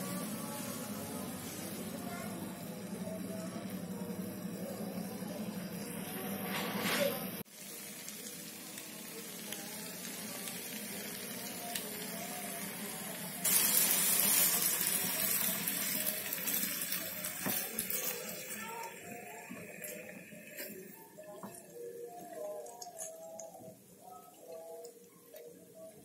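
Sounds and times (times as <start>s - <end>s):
chicken sizzling in a pan: 0.0s - 23.4s.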